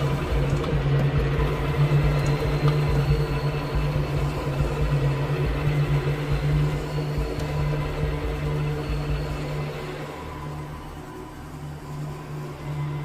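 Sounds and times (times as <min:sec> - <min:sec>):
dark ambient drone: 0:00.0 - 0:13.0.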